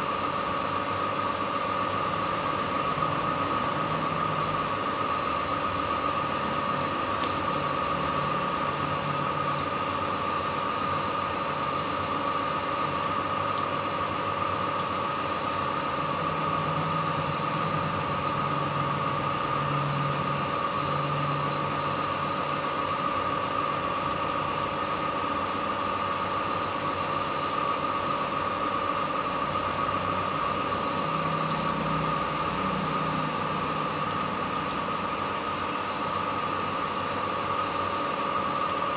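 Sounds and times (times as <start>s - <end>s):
mechanical hum with high whine: 0.0s - 38.9s.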